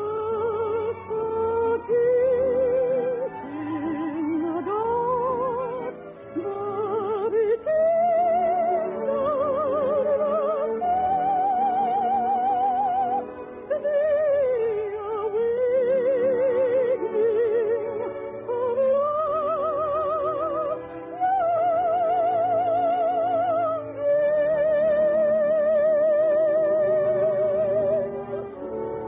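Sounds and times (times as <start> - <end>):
operetta singing with orchestra: 0.0 - 29.0.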